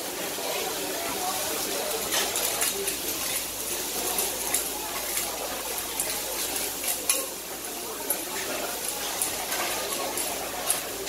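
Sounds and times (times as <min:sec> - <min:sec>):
clams sizzling on a griddle: 0:00.0 - 0:11.0.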